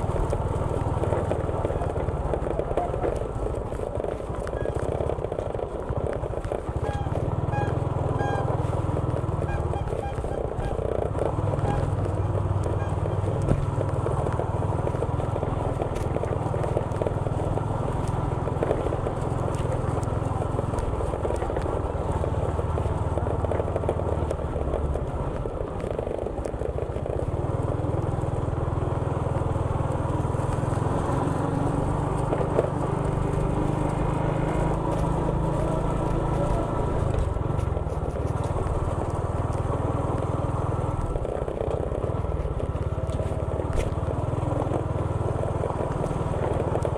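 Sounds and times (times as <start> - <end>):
motorcycle engine rumbling: 0.0 - 46.9.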